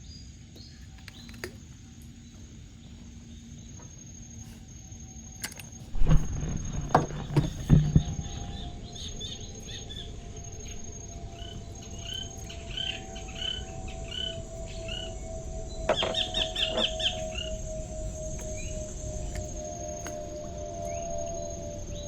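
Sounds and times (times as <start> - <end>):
bird chirping: 0.0 - 3.8, 6.0 - 22.0
insects trilling: 0.0 - 22.0.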